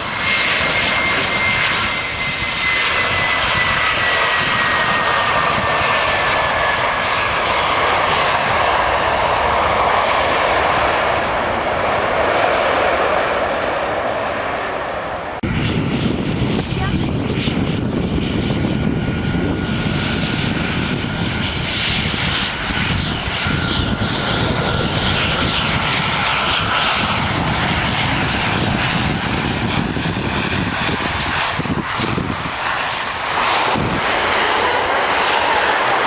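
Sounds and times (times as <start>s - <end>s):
jet airliner engine rush: 0.0s - 36.0s
thin high jet whine: 0.0s - 36.0s.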